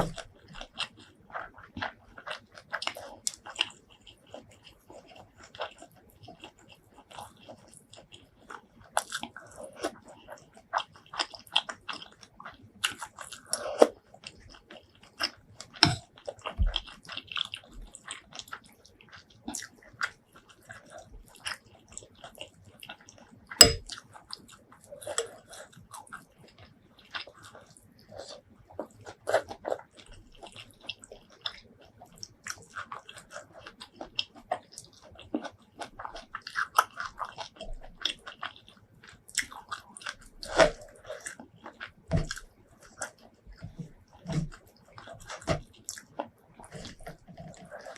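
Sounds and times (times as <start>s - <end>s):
close-miked chewing and crunching: 0.0s - 47.9s.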